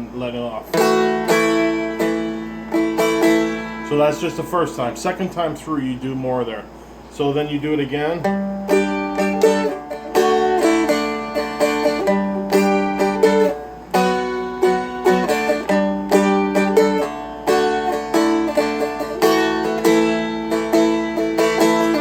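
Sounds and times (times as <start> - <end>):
dulcimer picked and strummed: 0.0 - 5.2, 8.0 - 22.0.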